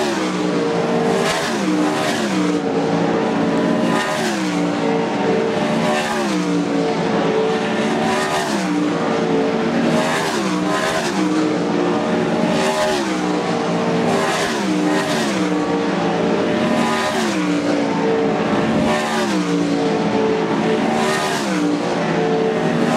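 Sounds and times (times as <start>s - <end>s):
race car engines roaring: 0.0s - 22.9s.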